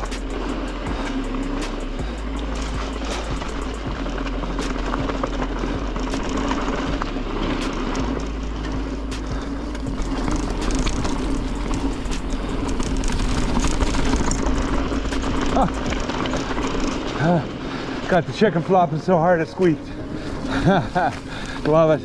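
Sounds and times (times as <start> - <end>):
bike rattling over bumps: 0.0 - 22.0
bike tyres on dirt and leaves: 0.0 - 22.0.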